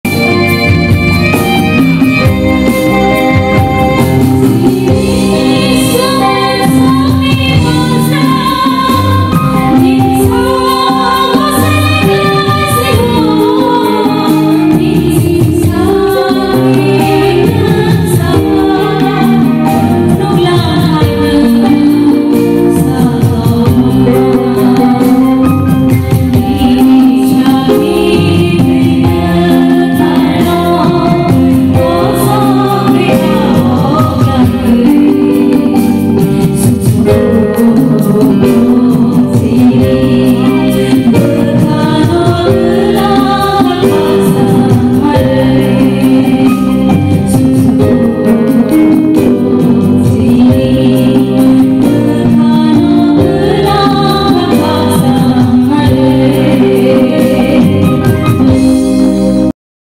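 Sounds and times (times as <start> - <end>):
amplified instrumental backing: 0.0 - 59.5
women singing into microphones: 0.0 - 59.5.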